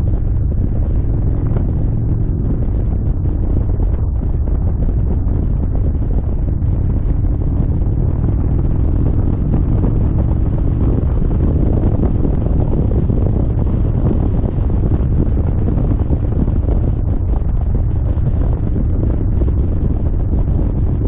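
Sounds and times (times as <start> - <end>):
motorcycle engine drone: 0.0 - 21.0
wind buffeting microphone: 0.0 - 21.0.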